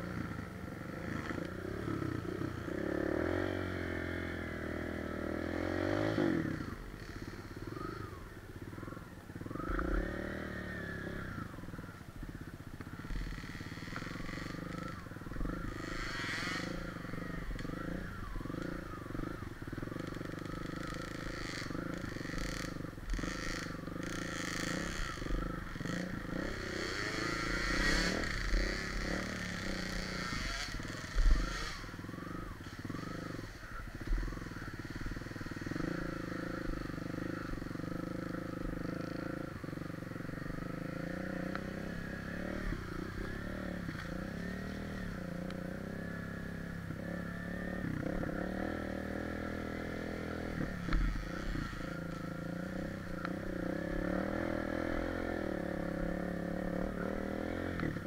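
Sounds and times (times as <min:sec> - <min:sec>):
dirt bike engine revving: 0:00.0 - 0:11.9, 0:12.9 - 0:58.0.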